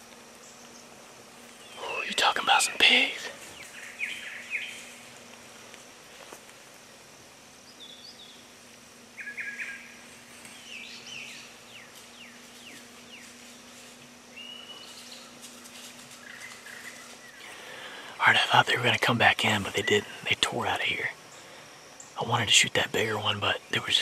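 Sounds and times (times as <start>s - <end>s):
faint steady low hum: 0.0s - 24.0s
songbirds chirping and whistling: 0.4s - 6.0s, 7.6s - 22.8s.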